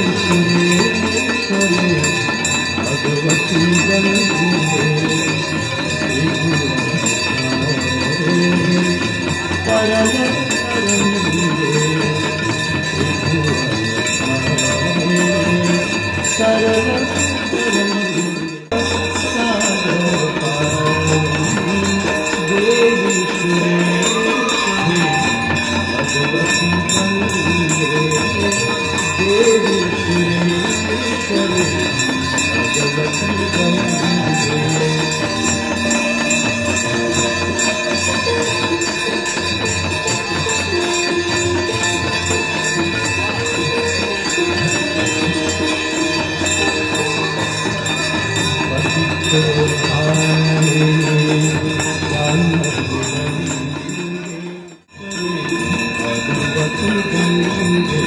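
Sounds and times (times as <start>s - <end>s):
devotional singing: 0.0s - 58.0s
jingling bells: 0.0s - 58.0s.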